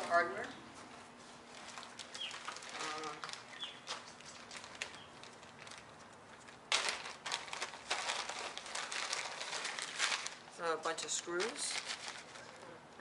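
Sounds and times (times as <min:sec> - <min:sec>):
plastic bag crinkling: 0:01.4 - 0:13.0.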